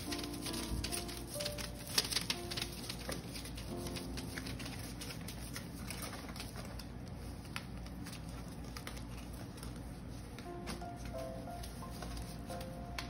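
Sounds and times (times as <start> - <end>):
paws scrabbling on paper: 0.0 - 13.0.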